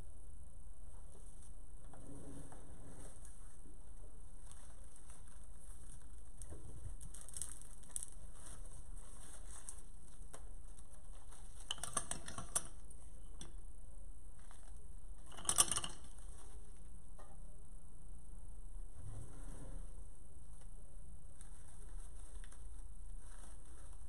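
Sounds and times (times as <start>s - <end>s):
artificial flowers rustling: 0.8s - 13.6s, 14.3s - 17.1s, 18.8s - 24.0s.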